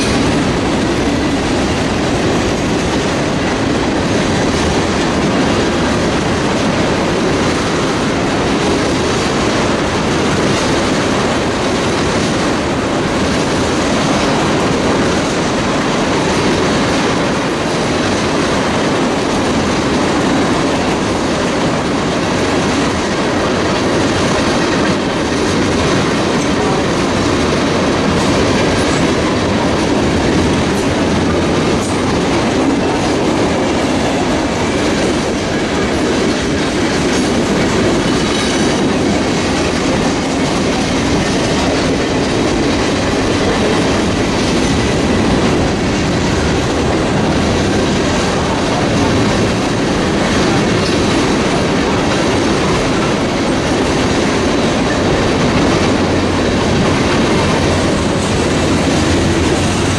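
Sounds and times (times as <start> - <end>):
train wheels clattering over rails: 0.0 - 59.9.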